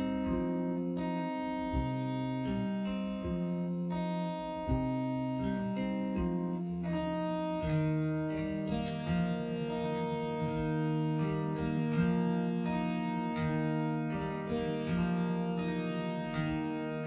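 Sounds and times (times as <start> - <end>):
instrumental music melody: 0.0 - 17.0.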